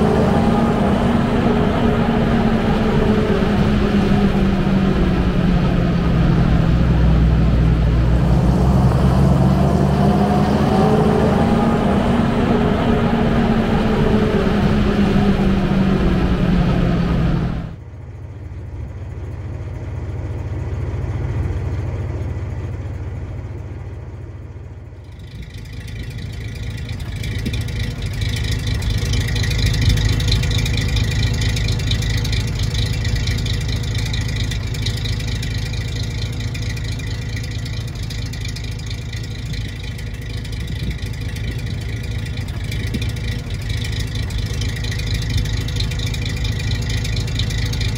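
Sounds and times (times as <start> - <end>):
truck engine heard from cab: 0.0 - 47.9.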